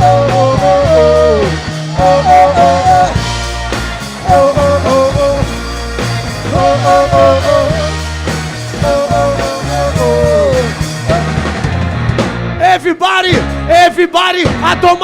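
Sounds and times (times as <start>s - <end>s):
melodic lead guitar phrase: 0.0s - 12.6s
bass: 0.0s - 15.0s
drums: 0.0s - 15.0s.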